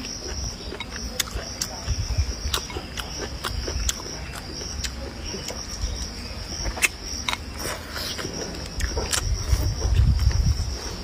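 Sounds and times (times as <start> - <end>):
insects droning: 0.0 - 11.0
person chewing: 0.0 - 11.0.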